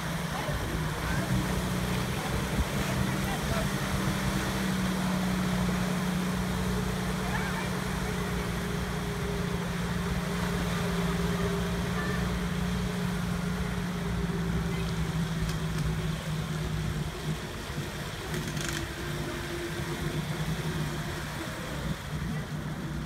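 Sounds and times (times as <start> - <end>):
van engine running: 0.0 - 23.0.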